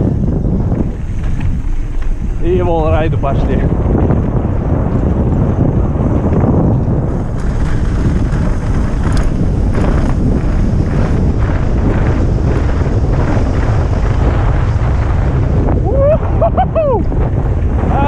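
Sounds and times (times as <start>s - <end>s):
bike clattering over bumps: 0.0s - 15.9s
wind buffeting microphone: 0.0s - 18.0s.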